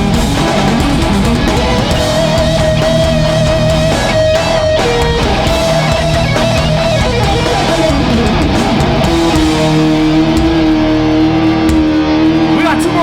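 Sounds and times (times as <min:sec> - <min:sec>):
bass: 0:00.0 - 0:13.0
distorted electric guitars: 0:00.0 - 0:13.0
drums: 0:00.0 - 0:13.0.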